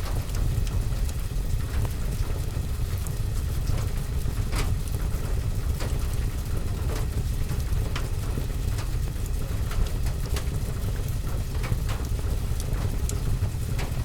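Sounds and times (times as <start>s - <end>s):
rain on window and roof: 0.0s - 14.0s.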